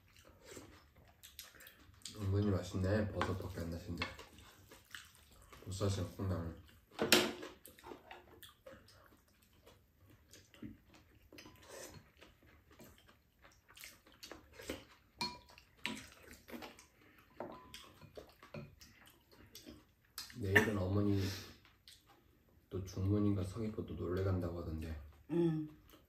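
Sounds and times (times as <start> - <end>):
wet chewing: 0.0 - 20.4, 21.6 - 22.6.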